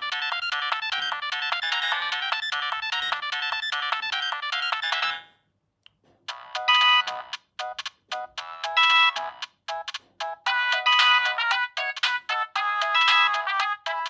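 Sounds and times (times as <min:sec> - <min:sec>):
electronic phone ringtone melody: 0:00.0 - 0:05.3, 0:06.3 - 0:14.0.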